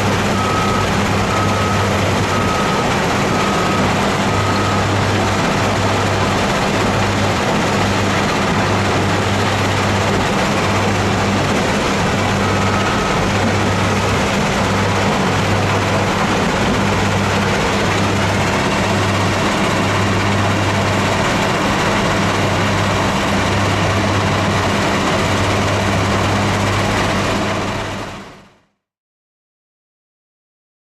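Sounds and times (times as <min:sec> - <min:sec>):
diesel engine running: 0:00.0 - 0:28.6.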